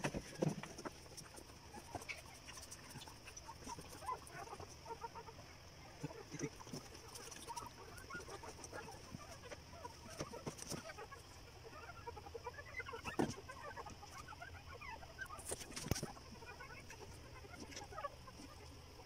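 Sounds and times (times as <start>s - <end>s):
squeaky animal calls: 1.8s - 18.7s.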